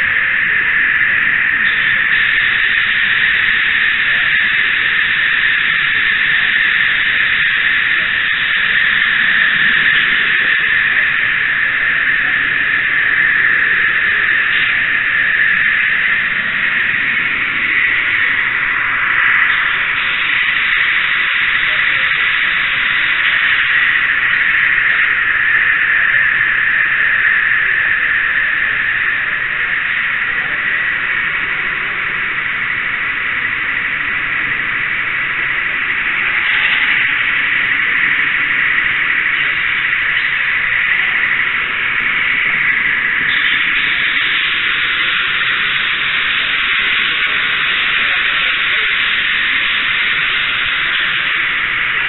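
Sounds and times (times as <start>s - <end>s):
model train rolling hiss: 0.0s - 52.0s.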